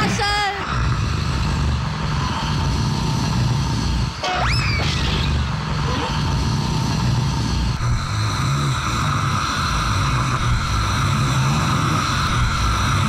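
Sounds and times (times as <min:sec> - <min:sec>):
man snoring loudly: 0:00.0 - 0:04.2, 0:05.1 - 0:13.0.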